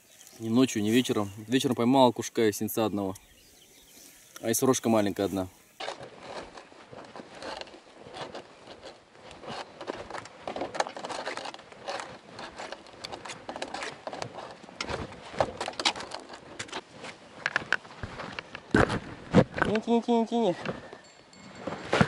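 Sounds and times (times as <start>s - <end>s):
rustling and scraping of gear: 0.0s - 2.0s, 3.0s - 19.9s, 20.5s - 22.0s.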